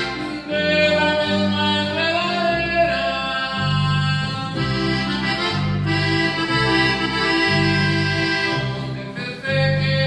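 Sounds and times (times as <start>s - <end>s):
accordion playing: 0.0s - 10.0s
electric bass notes: 0.0s - 10.0s.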